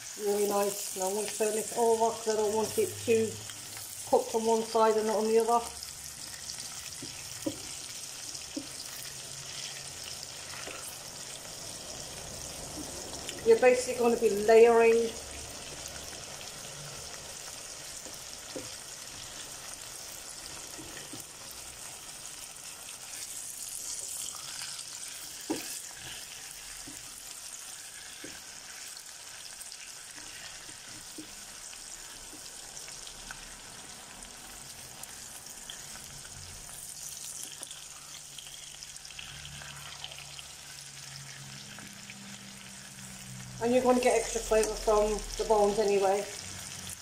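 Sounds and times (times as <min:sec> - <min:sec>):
food sizzling in oil: 0:00.0 - 0:47.0.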